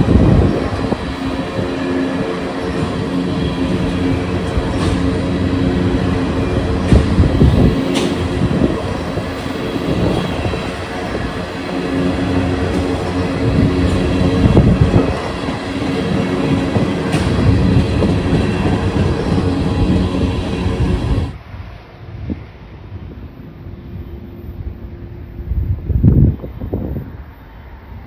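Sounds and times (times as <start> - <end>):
train wheels on rails: 0.0 - 23.0
diesel locomotive engine droning: 0.0 - 25.8.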